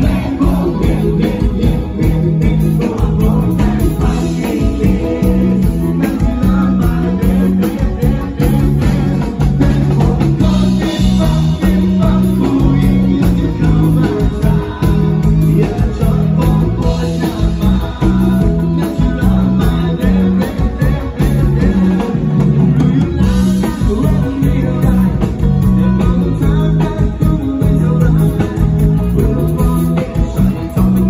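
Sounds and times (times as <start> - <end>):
guitar: 0.0 - 31.0
live band music: 0.0 - 31.0
person singing: 0.0 - 31.0
steady drum beat: 0.0 - 31.0.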